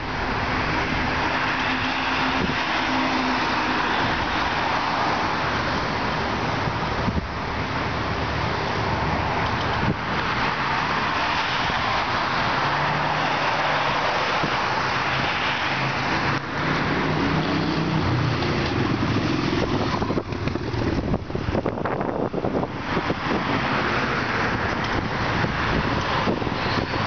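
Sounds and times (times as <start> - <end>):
truck tyre and road noise: 0.0 - 27.0.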